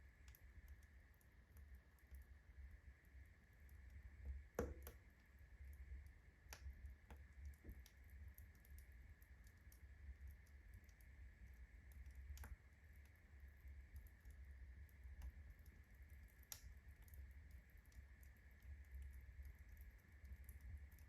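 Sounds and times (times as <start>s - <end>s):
fire crackling and popping: 3.9s - 21.0s.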